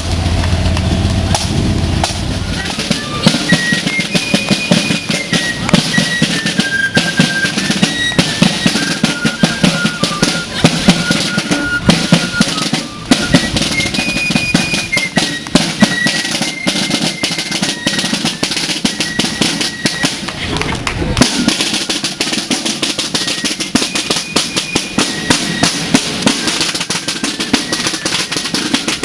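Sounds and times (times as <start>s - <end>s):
field drums beating cadence: 0.0s - 29.0s
fifes playing march melody: 0.2s - 20.4s, 21.2s - 29.0s.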